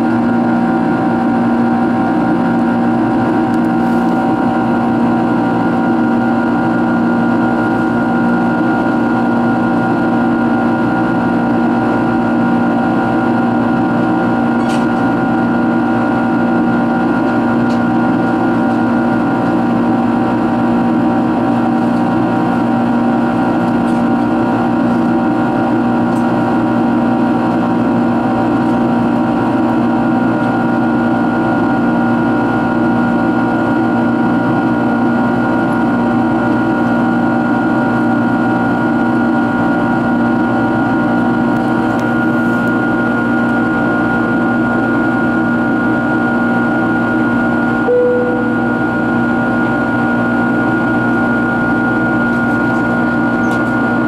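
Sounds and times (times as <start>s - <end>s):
jet engine drone in cabin: 0.0s - 54.0s.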